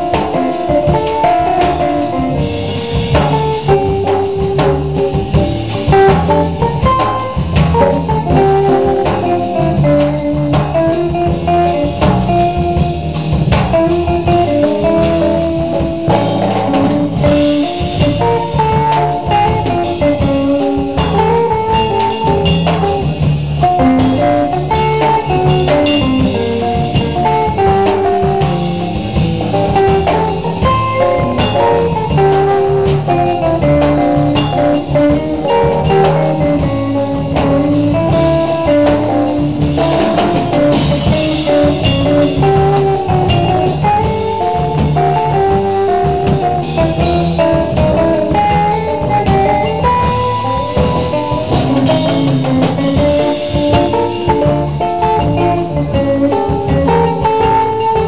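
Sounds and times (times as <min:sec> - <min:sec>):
acoustic and electric guitars: 0:00.0 - 0:58.0
drum kit: 0:00.0 - 0:58.0
electric bass: 0:00.0 - 0:58.0.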